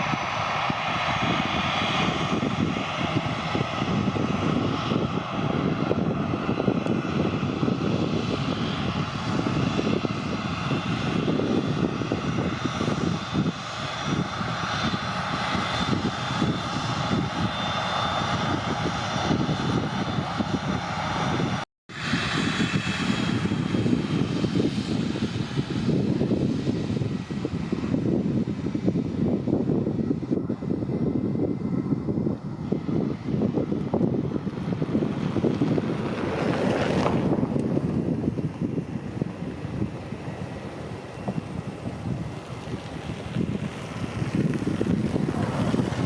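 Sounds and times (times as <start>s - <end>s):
jet engines at take-off power: 0.0s - 46.0s.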